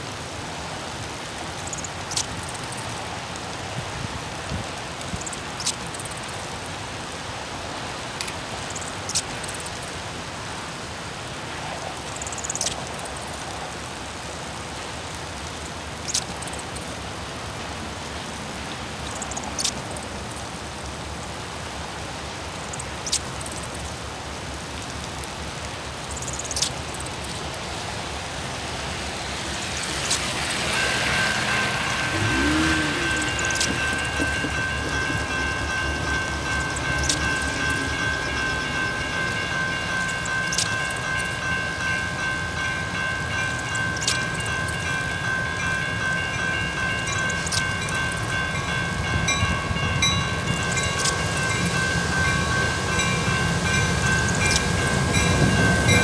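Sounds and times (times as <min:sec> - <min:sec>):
rain on wet pavement: 0:00.0 - 0:56.0.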